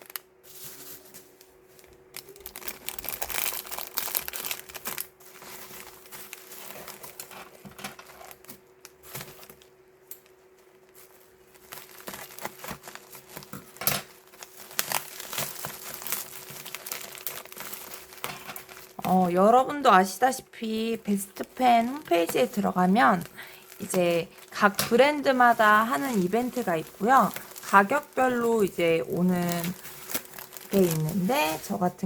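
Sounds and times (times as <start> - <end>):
packaging rustling and tearing: 0.0 - 19.5, 21.4 - 32.0.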